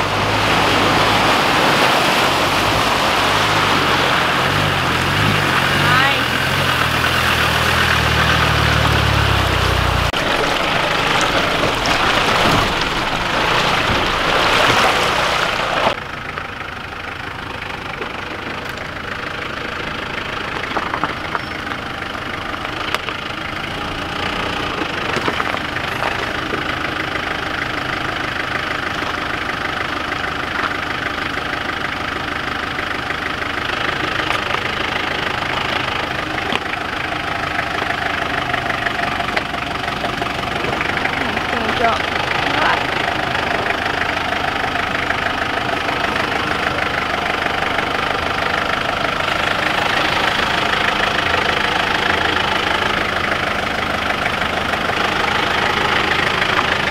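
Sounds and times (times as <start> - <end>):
engine running at low revs: 0.0 - 56.9
loud rushing water and tyre noise: 0.0 - 56.9.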